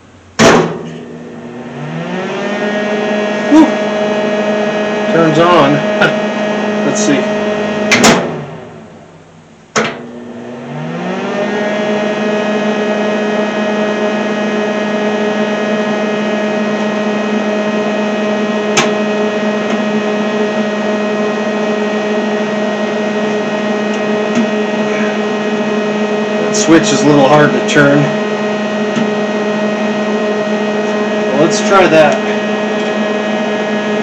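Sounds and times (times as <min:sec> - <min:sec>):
welder electrical hum: 0:00.0 - 0:34.0.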